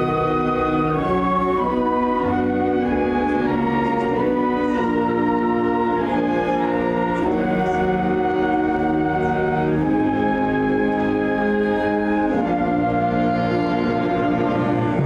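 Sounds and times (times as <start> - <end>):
instrumental ensemble sustained chords: 0.0 - 15.0.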